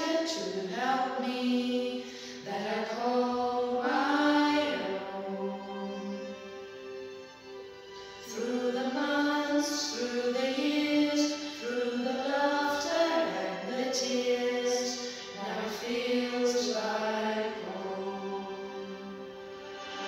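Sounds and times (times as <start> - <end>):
people singing: 0.0 - 6.3, 8.2 - 19.2
instrumental accompaniment: 3.9 - 20.0.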